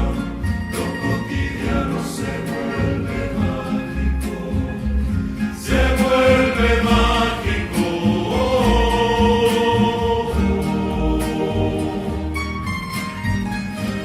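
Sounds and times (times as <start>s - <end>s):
choir singing sustained notes: 0.0s - 12.7s.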